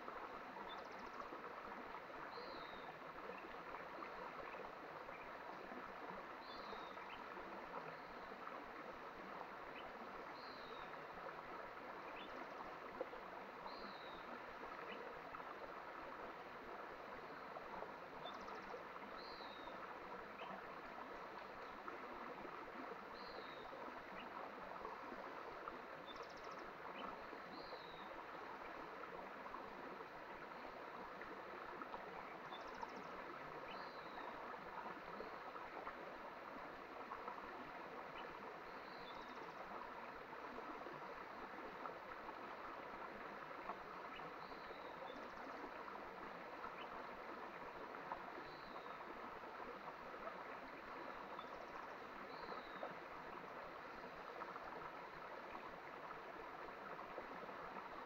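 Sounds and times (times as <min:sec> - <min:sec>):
stream rushing water: 0:00.0 - 0:58.0.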